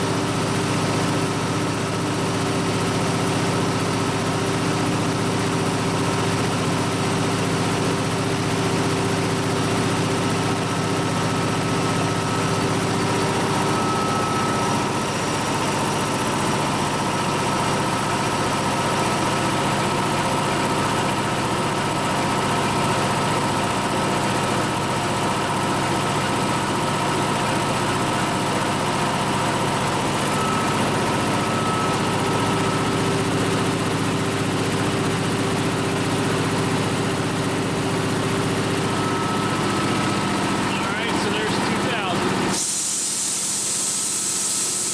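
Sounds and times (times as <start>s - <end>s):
air compressor drone with whine: 0.0s - 44.9s.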